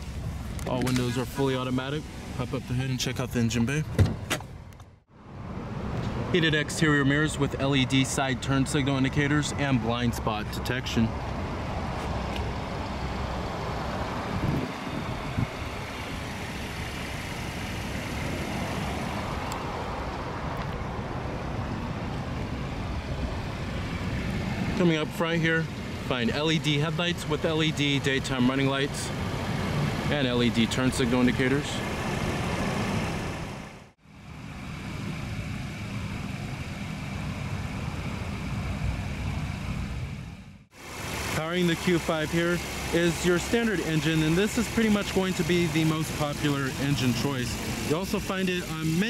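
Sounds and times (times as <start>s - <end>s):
car engine idling: 6.5s - 49.0s.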